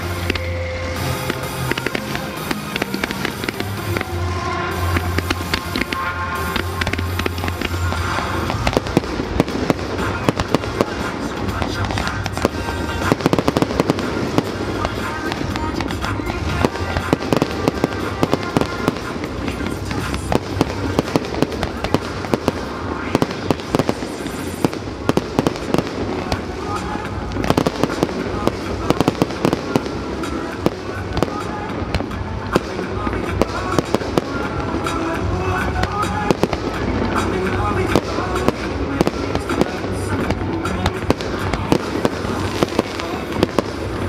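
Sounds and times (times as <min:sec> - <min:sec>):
fireworks bangs and crackles: 0:00.0 - 0:44.0
music playing: 0:00.0 - 0:44.0.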